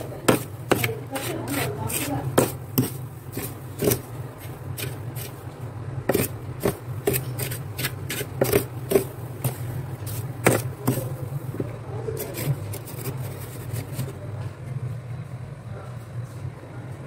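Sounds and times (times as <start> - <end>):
spoon scraping freezer frost: 0.0 - 14.3
steady low hum: 0.0 - 17.0.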